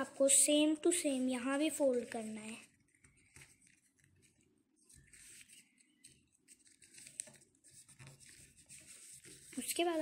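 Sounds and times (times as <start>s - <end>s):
paper rustling and creasing: 1.0s - 10.0s.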